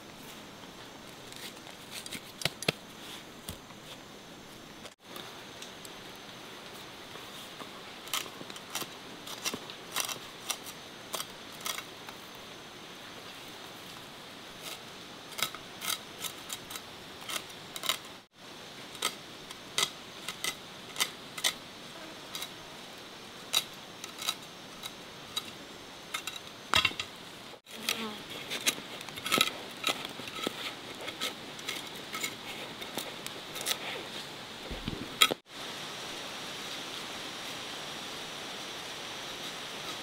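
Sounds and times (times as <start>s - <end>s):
steady high hiss: 0.0s - 40.0s.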